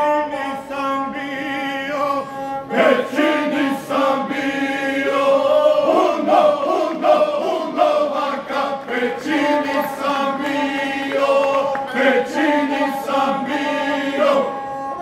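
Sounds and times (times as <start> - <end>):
men's choir singing: 0.9 - 15.0.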